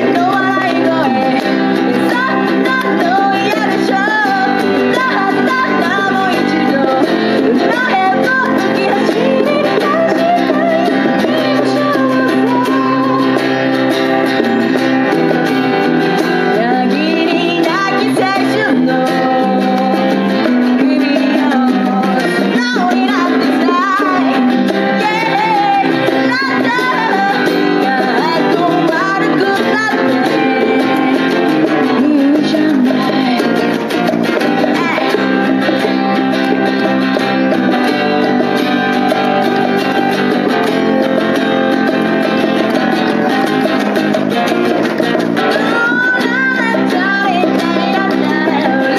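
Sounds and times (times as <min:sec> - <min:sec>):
person singing: 0:00.0 - 0:48.9
strummed guitar: 0:00.0 - 0:48.9.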